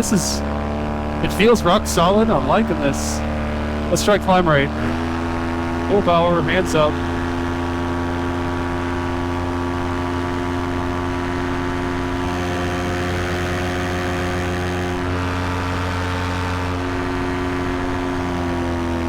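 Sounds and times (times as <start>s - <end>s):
paramotor engine and propeller: 0.0s - 19.0s.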